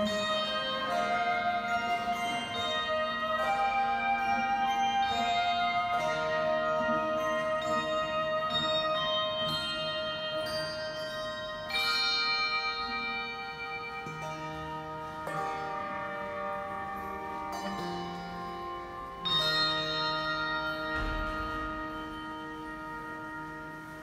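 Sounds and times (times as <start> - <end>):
handbell choir ringing a hymn: 0.0 - 24.0.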